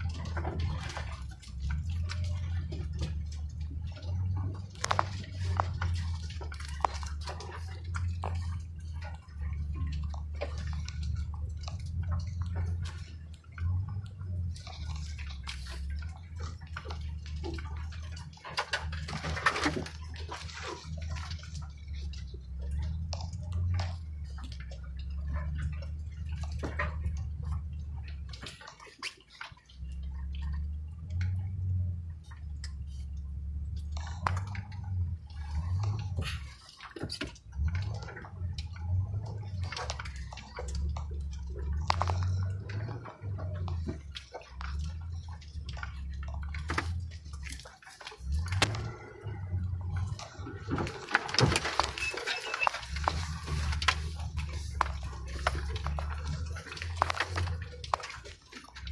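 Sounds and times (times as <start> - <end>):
brush scraping along vehicle: 0.0 - 58.9
pickup engine running: 0.0 - 58.9.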